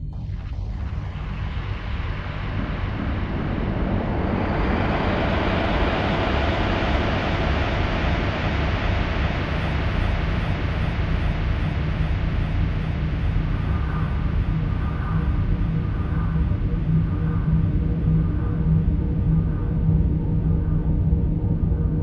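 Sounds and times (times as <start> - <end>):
dark ambient drone music: 0.0 - 22.0.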